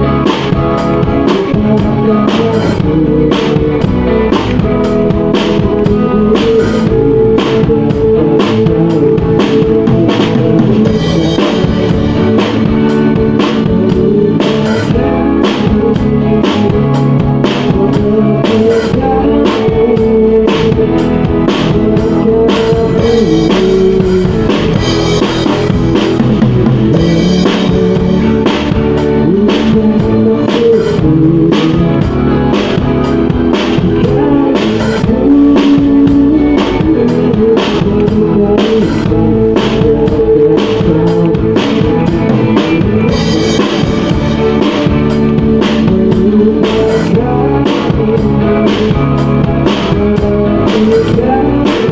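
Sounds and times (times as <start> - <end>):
bass guitar: 0.0 - 51.9
drum kit beat: 0.0 - 51.9
electric guitar: 0.0 - 51.9.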